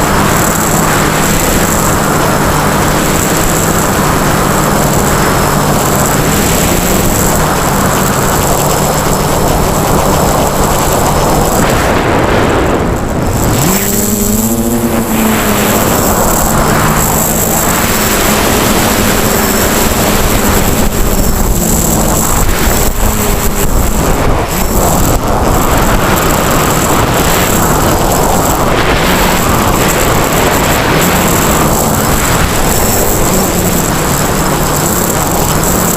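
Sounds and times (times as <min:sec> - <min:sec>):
drone motors buzzing: 0:00.0 - 0:35.9
heavy wind rush: 0:00.0 - 0:35.9.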